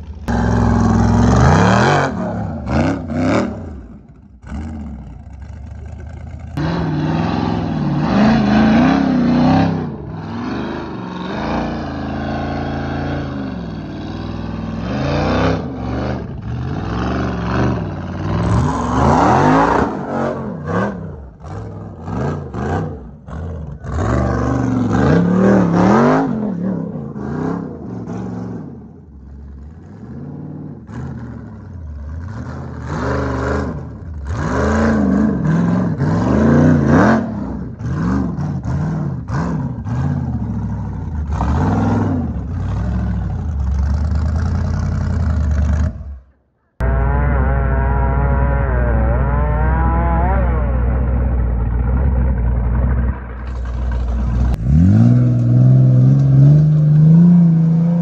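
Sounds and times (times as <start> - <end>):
buggy engine revving: 0.0 - 58.0.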